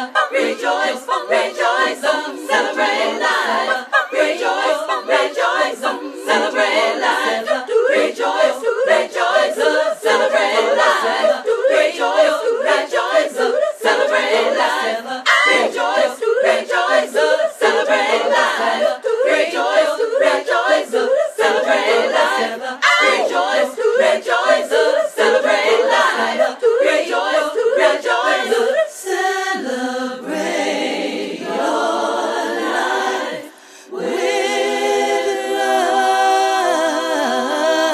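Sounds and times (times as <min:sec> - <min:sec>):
a cappella group singing: 0:00.0 - 0:37.9.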